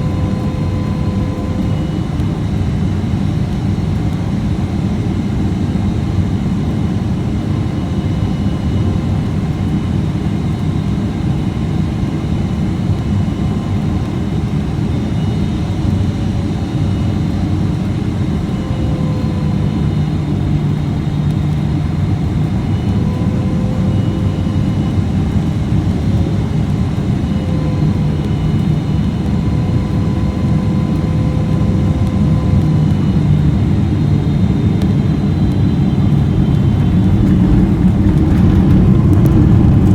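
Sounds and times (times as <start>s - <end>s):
faint wavering engine tones: 0.0s - 6.3s, 12.0s - 39.9s
airplane cabin engine rumble: 0.0s - 39.9s.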